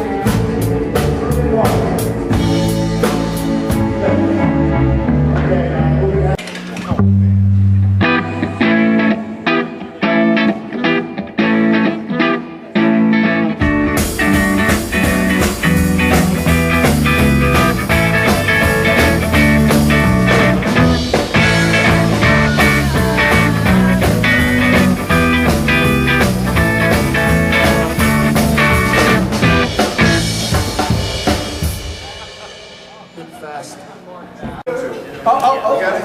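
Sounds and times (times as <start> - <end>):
bass guitar: 0.0 - 32.8
electric guitar: 0.0 - 32.8
drums: 0.0 - 34.8.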